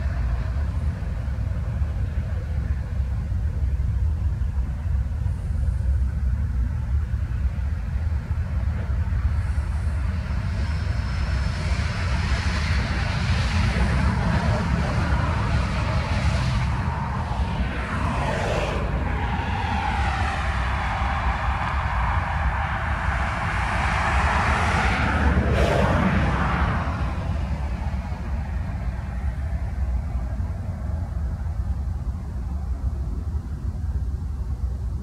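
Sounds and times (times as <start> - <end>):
diesel locomotive engine: 0.0 - 35.0
train wheels rumbling on rail: 0.0 - 35.0.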